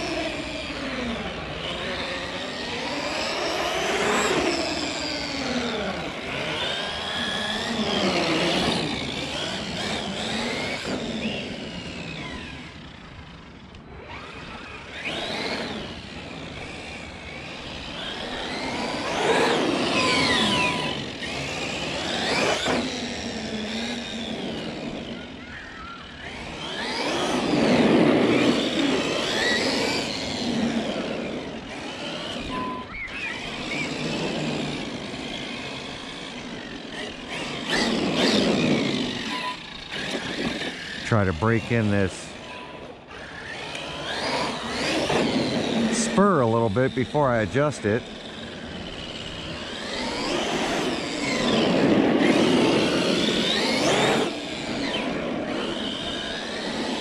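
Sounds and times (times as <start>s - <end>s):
rc truck motor whining: 0.0s - 57.0s.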